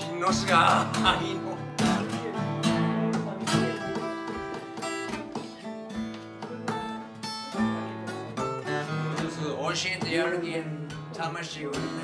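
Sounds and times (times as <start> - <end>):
acoustic guitars strumming chords: 0.0 - 12.0.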